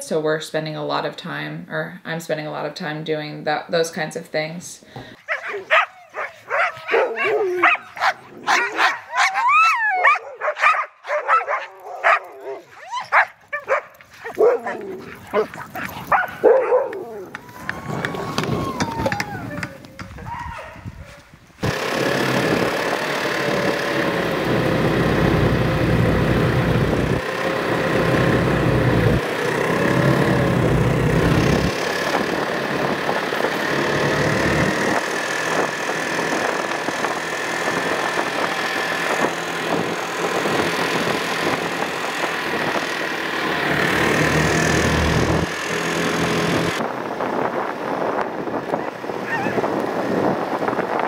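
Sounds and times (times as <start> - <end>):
snowmobile engine droning: 5.0 - 20.1, 21.6 - 51.0.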